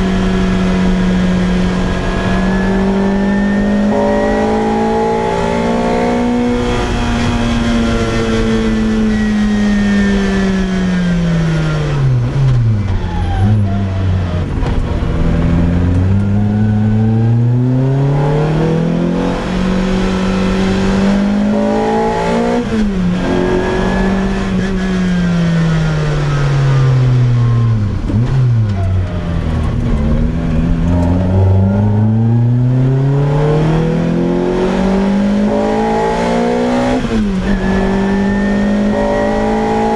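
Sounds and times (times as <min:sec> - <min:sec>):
sports car engine revving: 0:00.0 - 0:12.8, 0:14.1 - 0:39.9.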